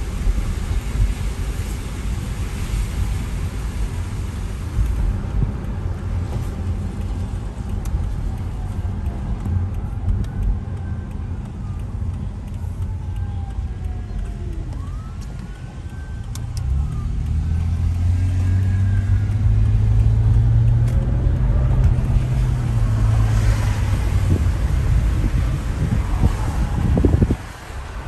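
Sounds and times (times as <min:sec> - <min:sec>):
car engine and road rumble: 0:00.0 - 0:28.0
faint sirens wailing: 0:04.7 - 0:28.0.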